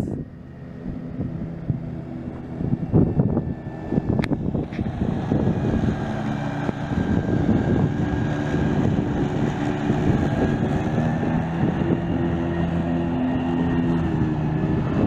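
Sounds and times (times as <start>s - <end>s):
mower diesel engine running: 0.0s - 15.0s
wind on microphone: 0.0s - 15.0s.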